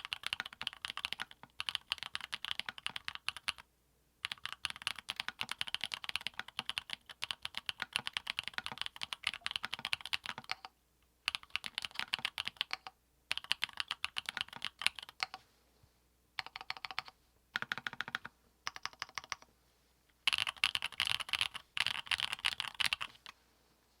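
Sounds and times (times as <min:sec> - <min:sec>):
mechanical keyboard typing: 0:00.0 - 0:03.6, 0:04.2 - 0:10.7, 0:11.3 - 0:15.4, 0:16.4 - 0:19.5, 0:20.3 - 0:23.3.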